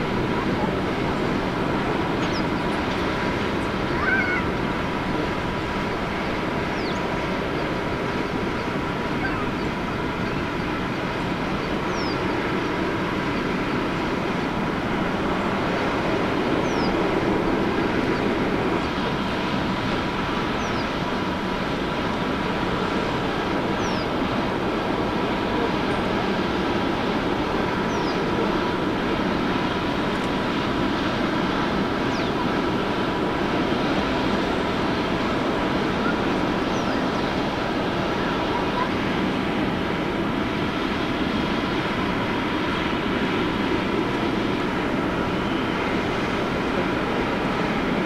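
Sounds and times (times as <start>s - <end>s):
distant jet engines running: 0.0s - 48.0s
thin steady whine: 0.0s - 48.0s.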